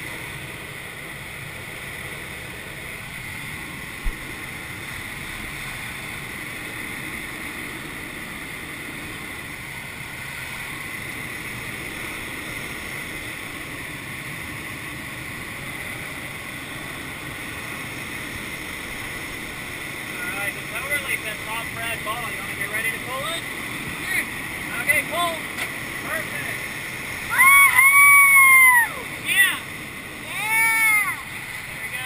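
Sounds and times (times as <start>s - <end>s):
airflow rushing over canopy: 0.0s - 32.0s.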